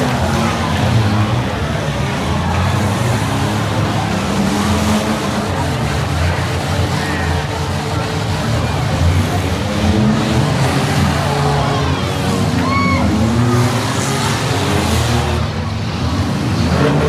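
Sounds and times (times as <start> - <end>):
car engines revving: 0.0 - 17.0
crowd talking: 0.0 - 17.0.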